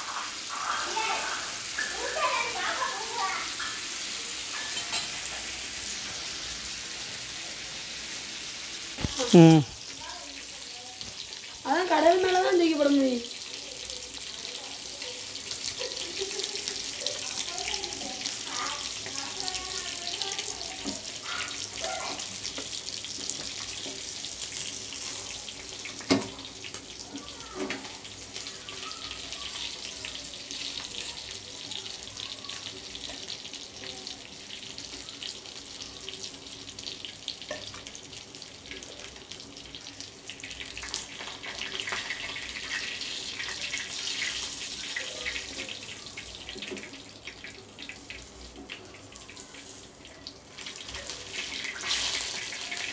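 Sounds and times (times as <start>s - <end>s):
fish sizzling in hot oil: 0.0s - 52.9s.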